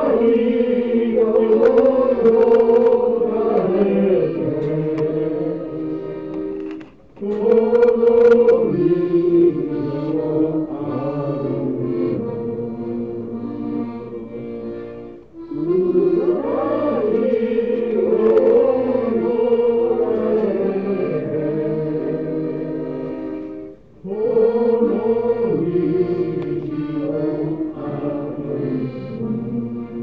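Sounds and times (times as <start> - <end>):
accordion chords: 0.0 - 30.0
group singing a folk song: 0.0 - 30.0.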